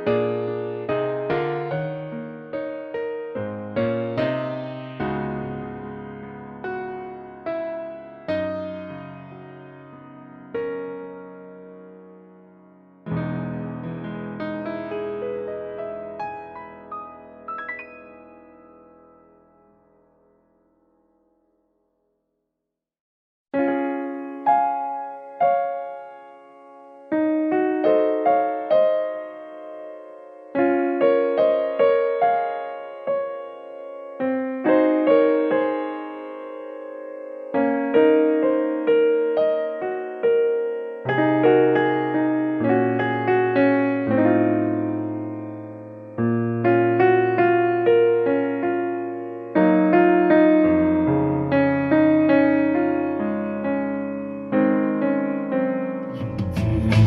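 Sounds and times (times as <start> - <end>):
soft piano music: 0.0 - 22.1, 23.6 - 57.0.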